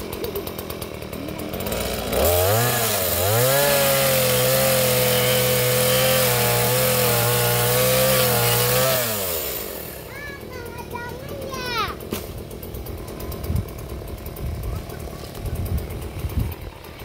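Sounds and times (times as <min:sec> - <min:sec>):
chainsaw revving and cutting: 0:00.0 - 0:17.0.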